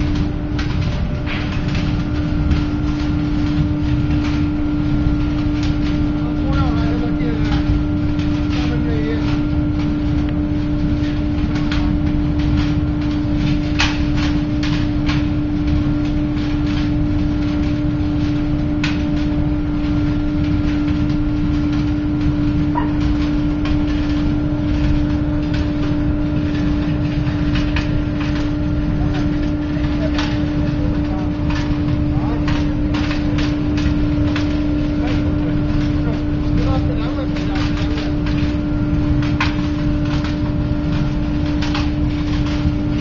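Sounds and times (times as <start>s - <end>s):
burner hum: 0.0s - 43.0s
low rushing flame: 0.0s - 43.0s.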